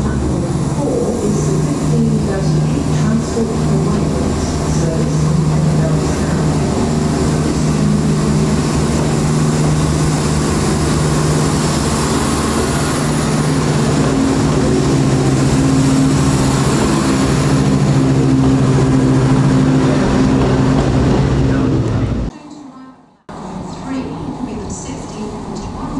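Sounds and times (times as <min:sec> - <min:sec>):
diesel train engine drone: 0:00.0 - 0:22.3, 0:23.2 - 0:25.9
rail and wheel noise: 0:00.0 - 0:25.9.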